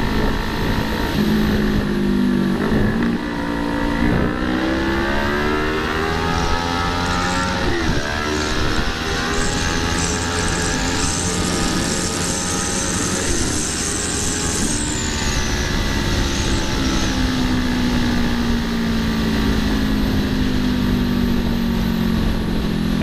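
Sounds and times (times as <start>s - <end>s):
motorcycle engine pulling hard: 0.0s - 23.0s.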